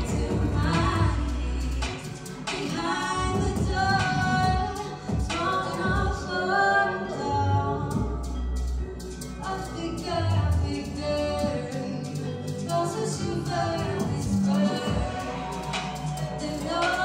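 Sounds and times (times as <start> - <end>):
woman singing into a microphone: 0.0 - 8.5, 9.4 - 17.0.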